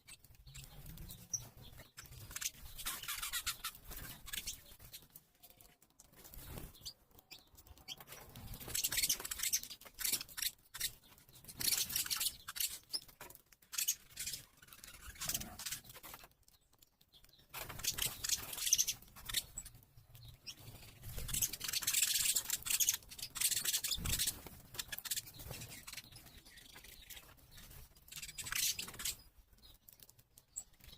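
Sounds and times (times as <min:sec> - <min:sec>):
birds rustling and fluttering: 0:00.0 - 0:30.9.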